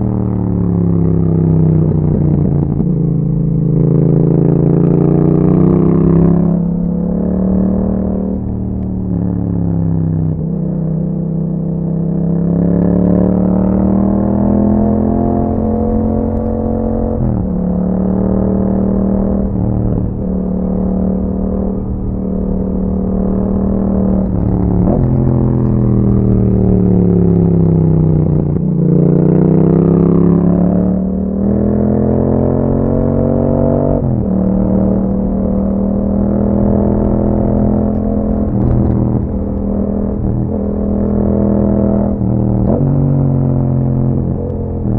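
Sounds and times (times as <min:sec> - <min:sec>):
motorcycle engine shifting gears: 0:00.0 - 0:44.9.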